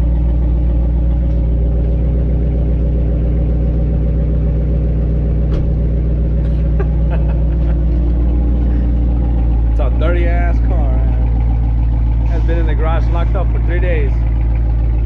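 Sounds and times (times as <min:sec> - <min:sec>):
car engine idling rumble: 0:00.0 - 0:15.0.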